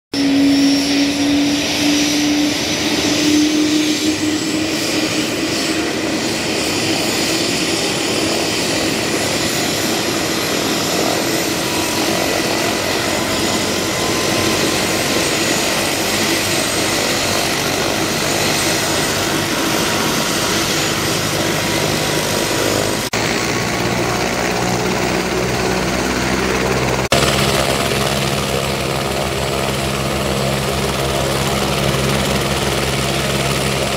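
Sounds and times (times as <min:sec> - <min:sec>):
helicopter engine and rotor: 0:00.1 - 0:33.9
propeller plane flying low: 0:00.1 - 0:33.9
high turbine whine: 0:00.2 - 0:33.9.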